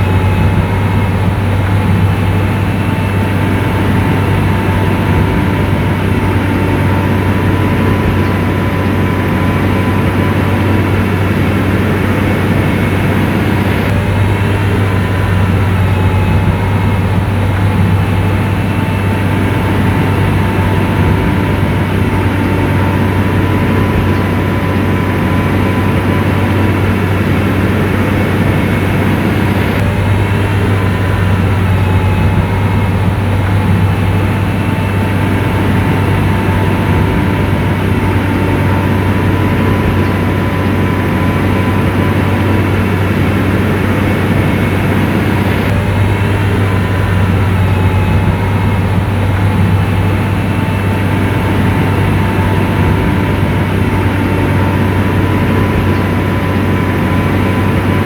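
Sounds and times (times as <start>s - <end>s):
diesel engine droning: 0.0s - 58.0s
thin steady whine: 0.0s - 58.0s.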